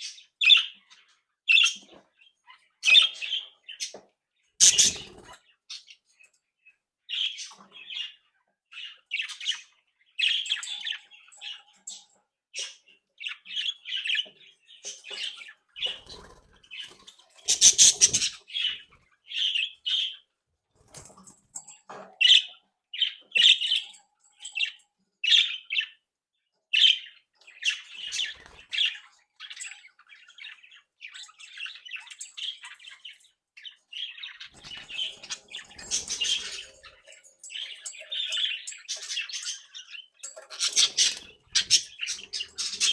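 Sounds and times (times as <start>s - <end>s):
budgerigars chirping and chattering: 0.0s - 20.3s, 20.9s - 26.0s, 26.7s - 42.9s.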